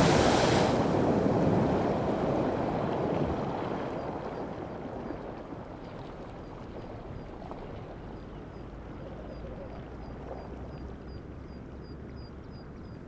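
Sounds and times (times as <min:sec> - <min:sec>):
wind on microphone: 0:00.0 - 0:10.6
hot spring water churning: 0:00.0 - 0:10.7.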